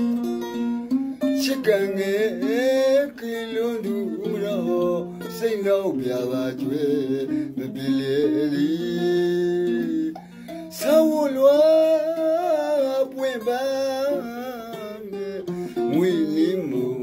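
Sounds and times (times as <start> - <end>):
plucked mandolin: 0.0 - 17.0
man singing: 1.2 - 17.0.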